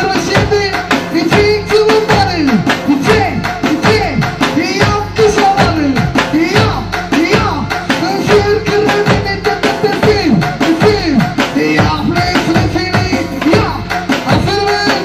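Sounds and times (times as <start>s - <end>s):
bass drum steady beat: 0.0s - 15.0s
person singing on microphone: 0.0s - 15.0s.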